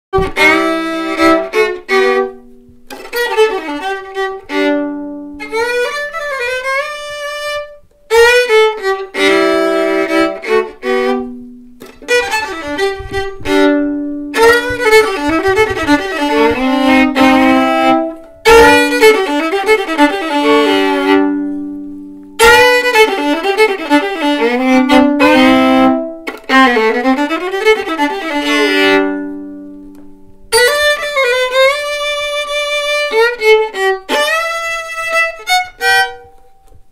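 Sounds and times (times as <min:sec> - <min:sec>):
solo fiddle bowed: 0:00.2 - 0:36.9.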